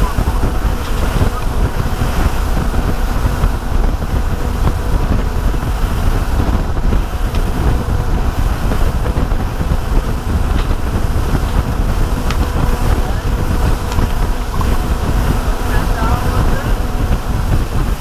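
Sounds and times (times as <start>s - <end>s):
boat engine drone: 0.0s - 18.0s
water noise: 0.0s - 18.0s
wind buffeting microphone: 0.0s - 18.0s.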